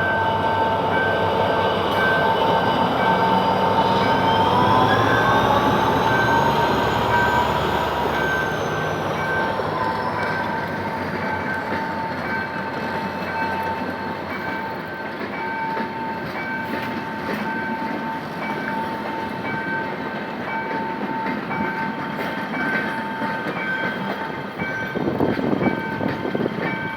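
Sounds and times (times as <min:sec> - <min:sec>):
train rolling past: 0:00.0 - 0:26.9.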